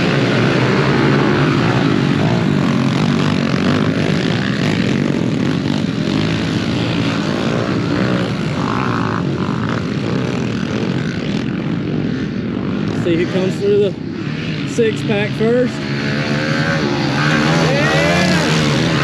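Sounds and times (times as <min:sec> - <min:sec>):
pit bike engines buzzing and revving: 0:00.0 - 0:19.0.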